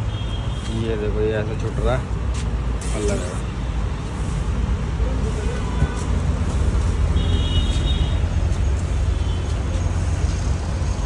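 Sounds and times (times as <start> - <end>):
low rumble of road traffic: 0.0 - 11.0.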